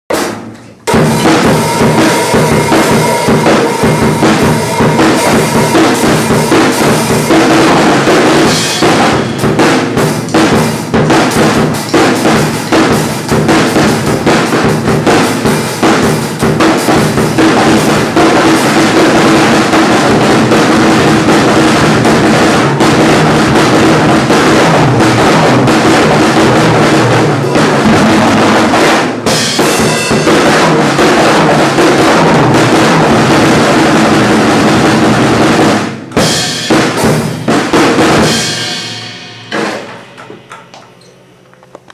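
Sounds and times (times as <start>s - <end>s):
fast drum solo: 0.1s - 40.5s.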